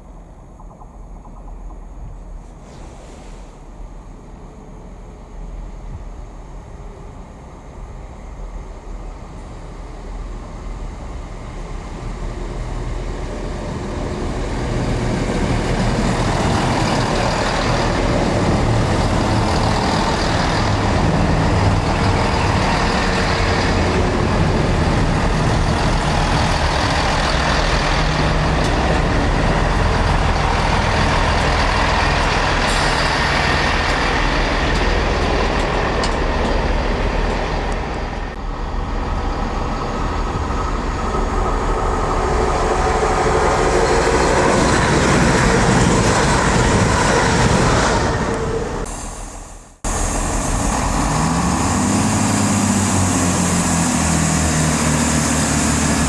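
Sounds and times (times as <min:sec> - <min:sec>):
train engine hum: 0:00.0 - 0:56.0
train wheel noise: 0:00.0 - 0:56.0.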